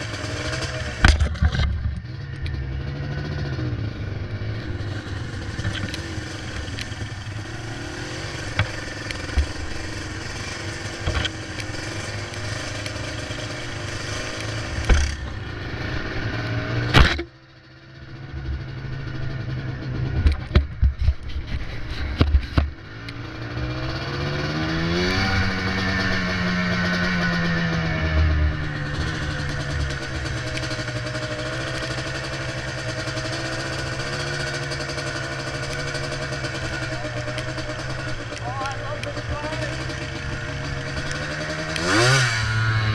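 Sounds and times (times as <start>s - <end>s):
two-stroke engine running: 0.0s - 42.9s.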